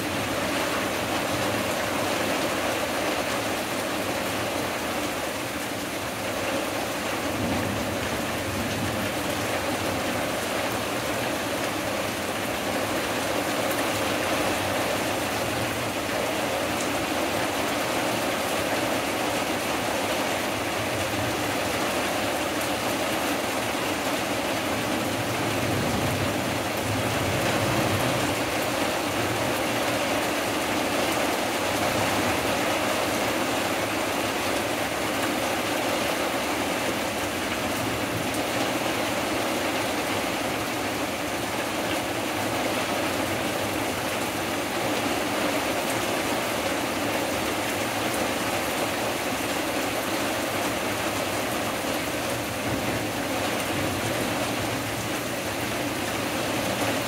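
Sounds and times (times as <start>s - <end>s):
heavy rain on leaves and deck: 0.0s - 57.0s.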